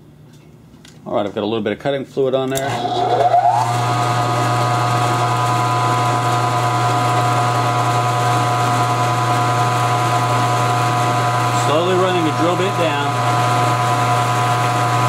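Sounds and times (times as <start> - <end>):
milling machine spindle whine: 2.6 - 15.0.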